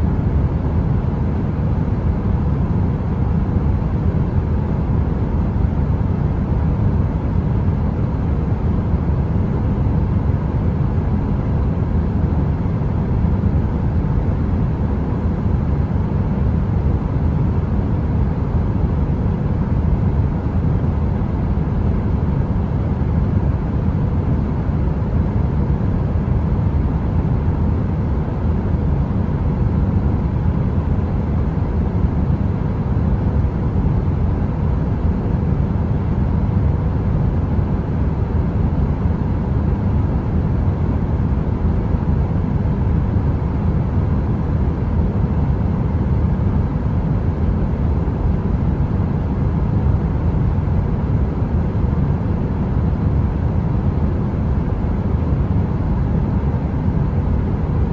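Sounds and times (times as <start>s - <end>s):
faint hum: 0.0s - 57.9s.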